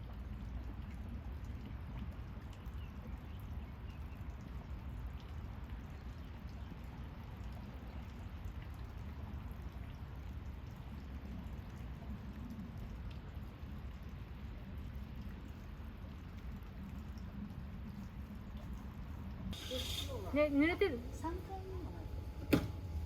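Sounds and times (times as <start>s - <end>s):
running water: 0.0s - 23.0s
water drips: 0.0s - 23.0s.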